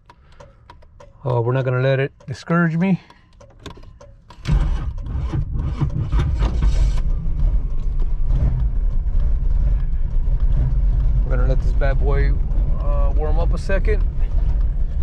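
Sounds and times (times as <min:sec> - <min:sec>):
car engine starting and idling: 0:00.0 - 0:15.0.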